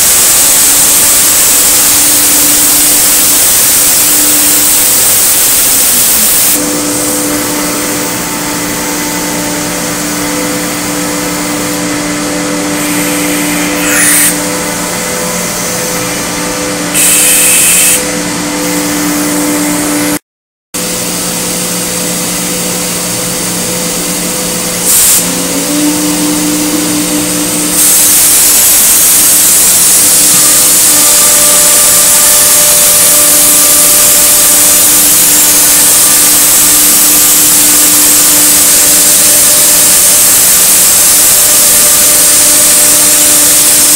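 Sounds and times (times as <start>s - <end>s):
loud hiss: 0.0s - 18.0s, 24.7s - 43.9s
cnc router spindle humming: 1.6s - 20.2s, 20.8s - 43.9s.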